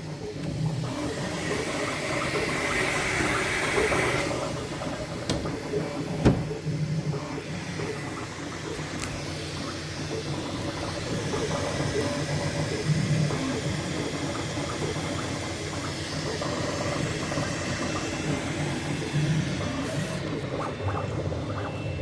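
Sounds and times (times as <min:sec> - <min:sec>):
fan hiss and hum: 0:00.0 - 0:22.0.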